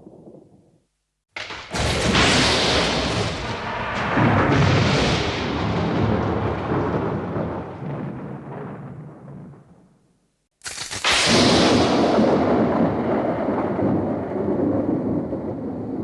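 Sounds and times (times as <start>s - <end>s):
thunder rumbling: 0.0s - 0.8s, 1.4s - 10.0s, 11.2s - 16.0s.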